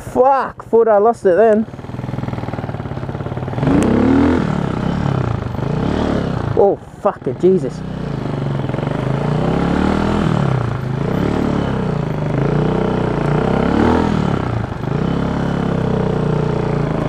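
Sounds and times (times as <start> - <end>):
dirt bike engine revving: 1.4 - 17.0.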